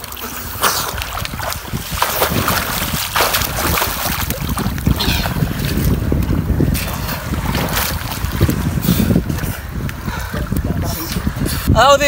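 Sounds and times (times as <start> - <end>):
water splashing and sloshing: 0.0 - 12.0
wind rumbling on microphone: 0.0 - 12.0.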